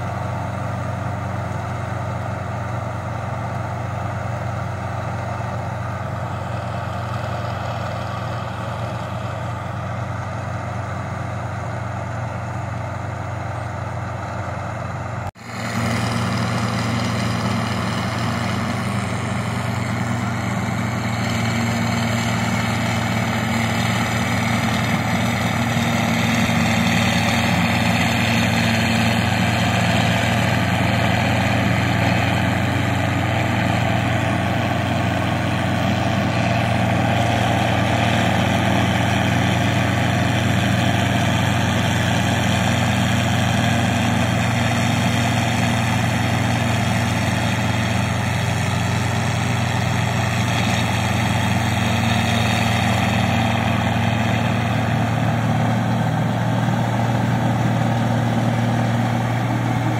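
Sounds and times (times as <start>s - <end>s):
combine harvester diesel engine: 0.0s - 59.9s.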